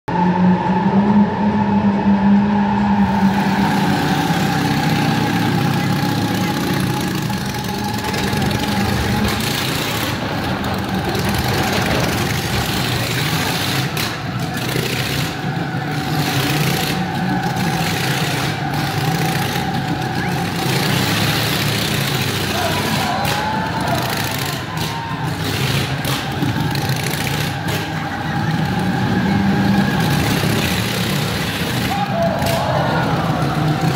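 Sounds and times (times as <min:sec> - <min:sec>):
motorcycle engine running: 0:02.6 - 0:33.9.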